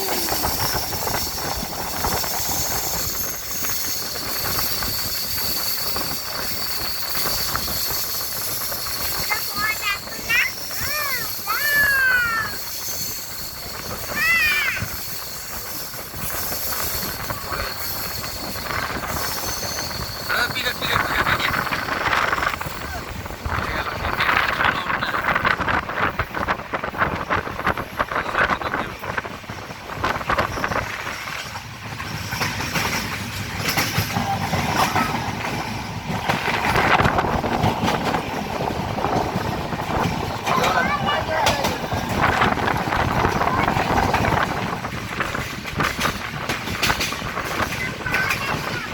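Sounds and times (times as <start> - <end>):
rattling clicks of train: 0.0 - 48.9
train wheels rumbling on rails: 0.0 - 48.9.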